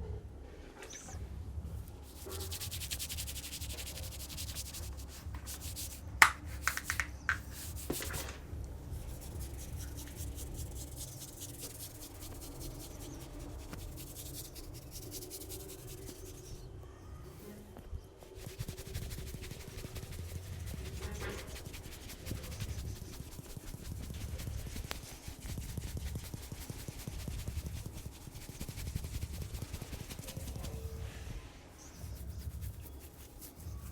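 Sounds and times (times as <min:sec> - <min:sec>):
hands rubbing hair: 0:02.0 - 0:08.4, 0:09.0 - 0:16.6, 0:18.3 - 0:30.9, 0:32.0 - 0:33.9.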